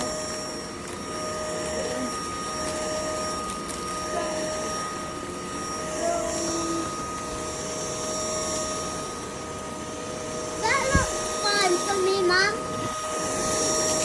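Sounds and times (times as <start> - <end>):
stick vacuum whirring: 0.0 - 14.0.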